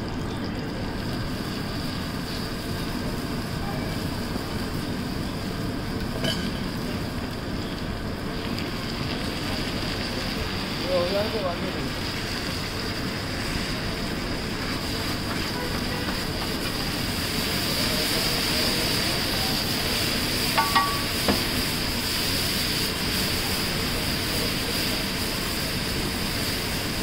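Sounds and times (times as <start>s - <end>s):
vegetables sizzling in oil: 0.1s - 27.0s.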